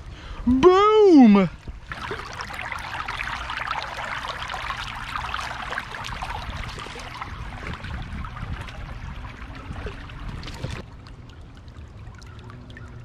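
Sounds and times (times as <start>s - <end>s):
creek water trickling and splashing: 1.5s - 13.0s.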